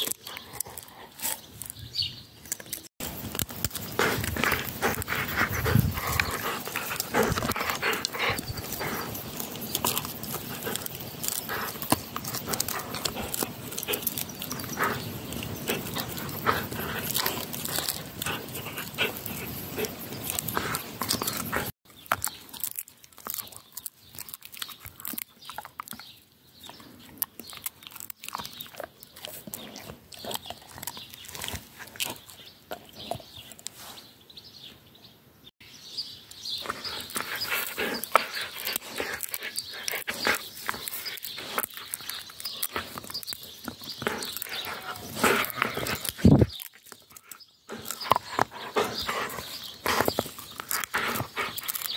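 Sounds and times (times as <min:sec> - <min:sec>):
dog chewing wooden stick: 0:00.0 - 0:33.8, 0:36.5 - 0:51.9.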